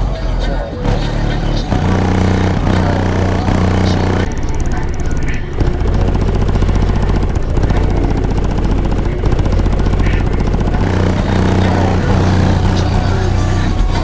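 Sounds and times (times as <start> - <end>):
deep bass from subwoofers: 0.0 - 14.0.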